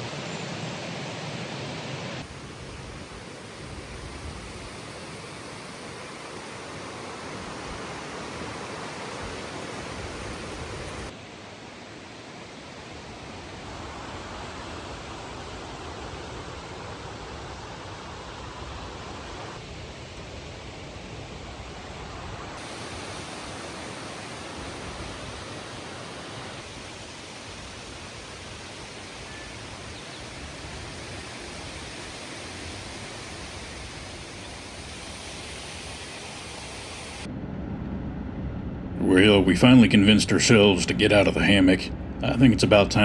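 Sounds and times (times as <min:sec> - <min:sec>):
steady rushing outdoor noise: 0:00.0 - 0:43.0.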